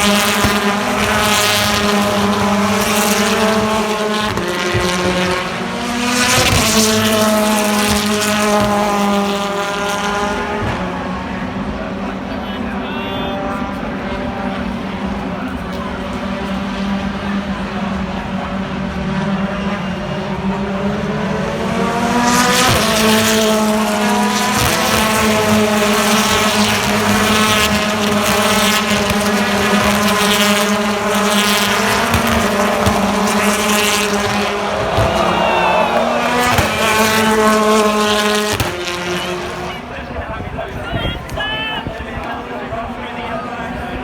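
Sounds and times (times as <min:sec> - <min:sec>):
racing car engines revving: 0:00.0 - 0:40.8.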